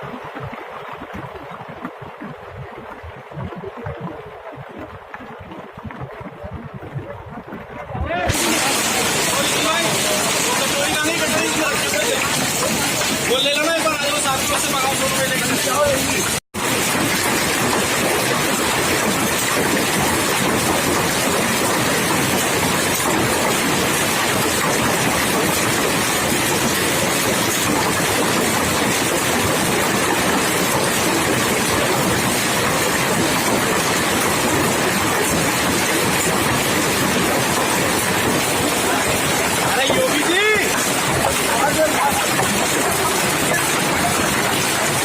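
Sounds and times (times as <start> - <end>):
heavy rain pouring: 8.1 - 45.0.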